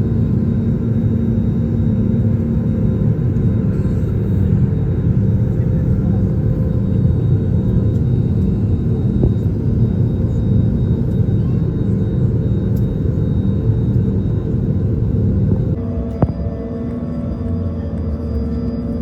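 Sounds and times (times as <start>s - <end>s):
airliner engines rumbling in cabin: 0.0s - 19.0s.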